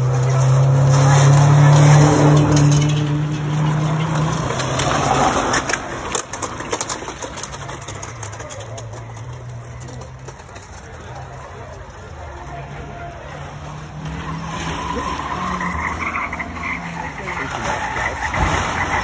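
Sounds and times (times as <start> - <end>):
race car driving away: 0.0 - 19.0.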